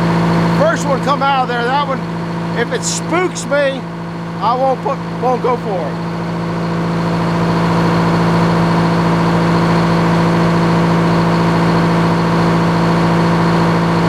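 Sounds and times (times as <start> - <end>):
sawmill engine running: 0.0 - 14.0.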